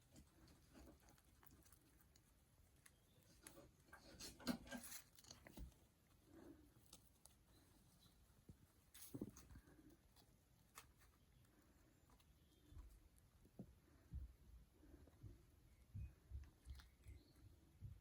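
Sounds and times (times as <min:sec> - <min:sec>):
rats rustling and nibbling: 0:00.0 - 0:18.0.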